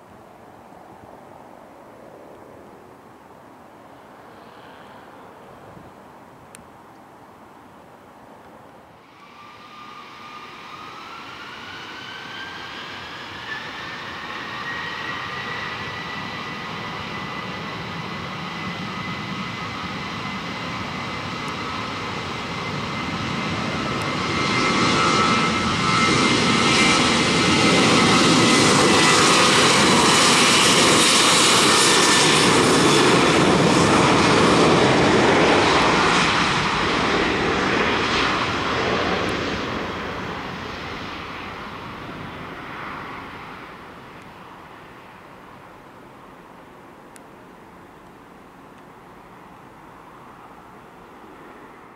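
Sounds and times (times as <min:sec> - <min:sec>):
jet engines at takeoff power: 0:03.9 - 0:05.8, 0:08.5 - 0:51.9.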